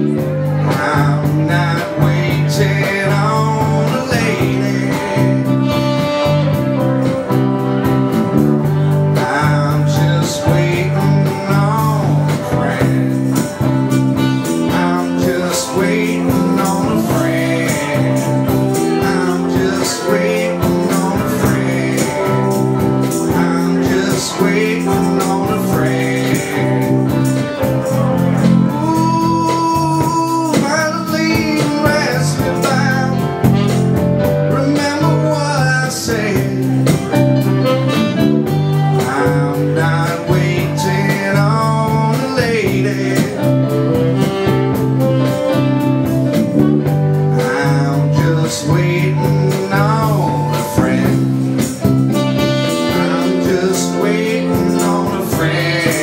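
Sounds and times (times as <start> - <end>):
guitar: 0.0 - 56.0
live band playing blues: 0.0 - 56.0.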